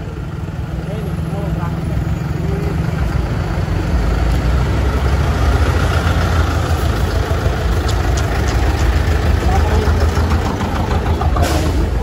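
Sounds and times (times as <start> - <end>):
large vehicle engine idling: 0.0 - 12.0.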